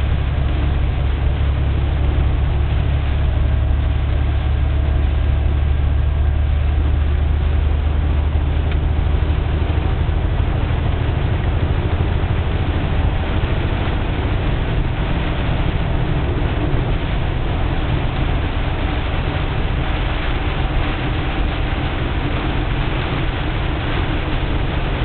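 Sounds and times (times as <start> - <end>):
deep continuous rumble: 0.0 - 25.0
heavy rain downpour: 0.0 - 25.0.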